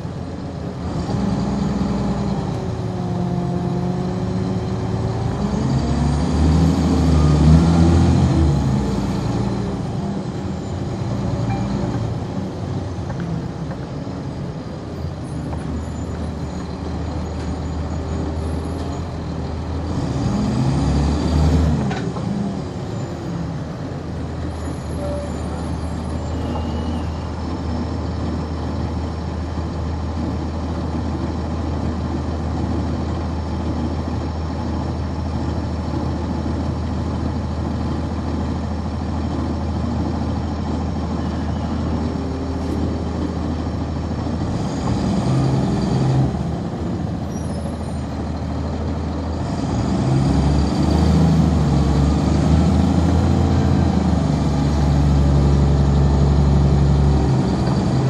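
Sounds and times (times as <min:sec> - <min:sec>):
bus diesel engine revving: 0:00.0 - 0:58.0
high engine whine: 0:00.0 - 0:58.0.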